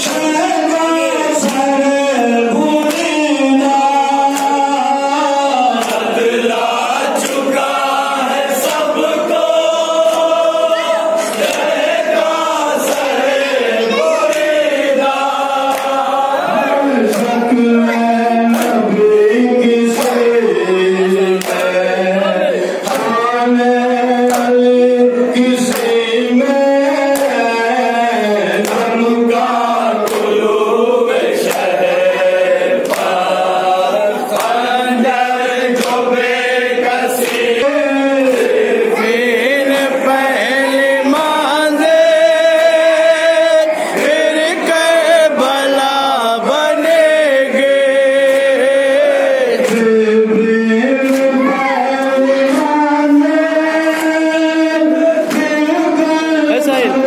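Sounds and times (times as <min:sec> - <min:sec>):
men chanting together: 0:00.0 - 0:57.0.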